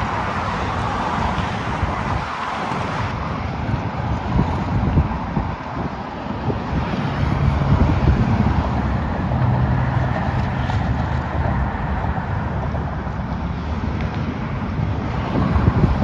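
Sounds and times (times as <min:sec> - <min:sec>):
road traffic rumble: 0:00.0 - 0:16.0
wind buffeting microphone: 0:00.0 - 0:16.0.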